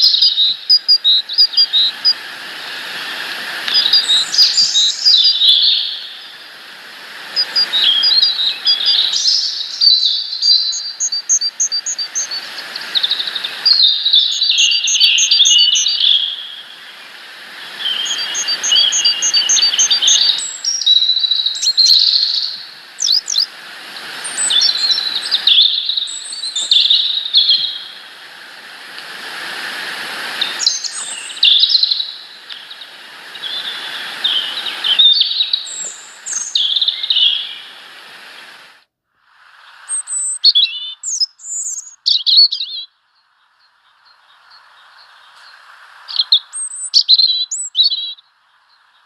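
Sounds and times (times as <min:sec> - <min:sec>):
small birds chirping: 0:00.0 - 0:06.6, 0:07.2 - 0:28.2, 0:30.1 - 0:38.6, 0:39.7 - 0:49.0
steady hiss: 0:00.0 - 0:49.0.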